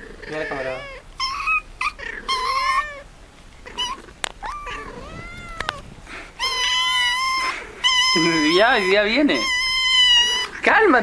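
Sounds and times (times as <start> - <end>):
cat meowing: 0.3 - 3.0, 3.6 - 10.6.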